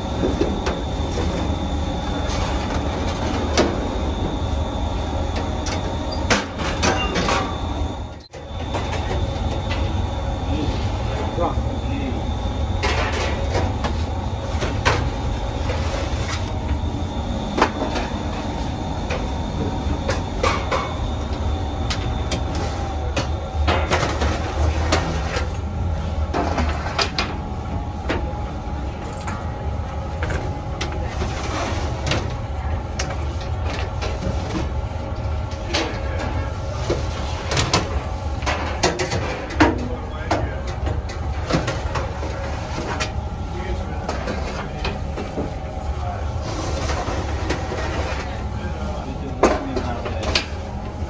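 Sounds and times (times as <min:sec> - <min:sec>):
oven machine hum: 0:00.0 - 0:51.0.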